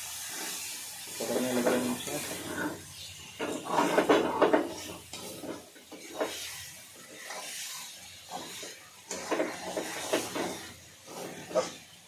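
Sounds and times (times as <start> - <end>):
food sizzling: 0.0 - 12.0
spatula scraping a pan: 0.2 - 12.0.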